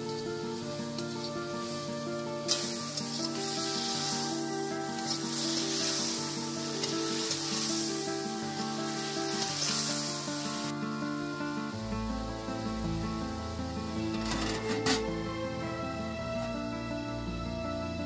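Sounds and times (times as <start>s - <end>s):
food sizzling in hot fat: 0.0s - 15.9s
background music with melody: 0.0s - 18.0s.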